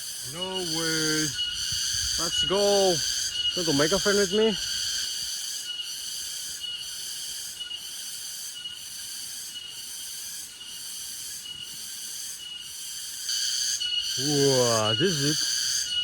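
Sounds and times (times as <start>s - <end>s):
cicadas pulsing drone: 0.0s - 16.0s.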